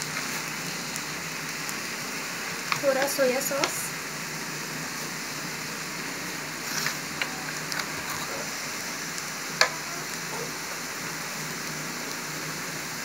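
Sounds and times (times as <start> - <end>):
fried rice sizzling in a pan: 0.0 - 13.0.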